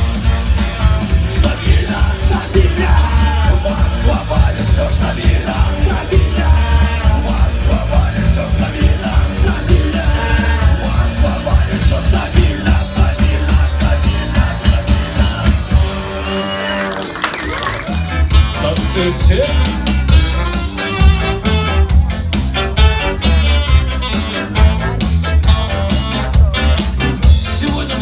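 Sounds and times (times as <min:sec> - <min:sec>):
punk rock band playing: 0:00.0 - 0:28.0.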